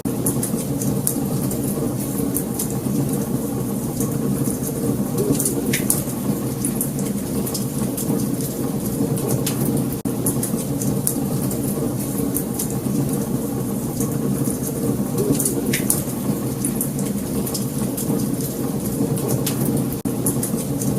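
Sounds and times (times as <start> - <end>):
low rumble of flames: 0.0 - 20.9
burning wood crackling and popping: 0.1 - 20.9.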